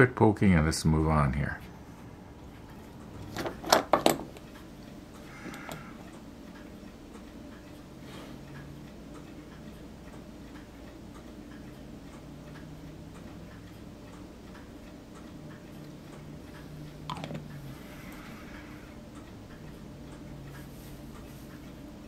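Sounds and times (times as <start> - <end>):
soft ticking: 1.3 - 3.4, 4.2 - 22.0.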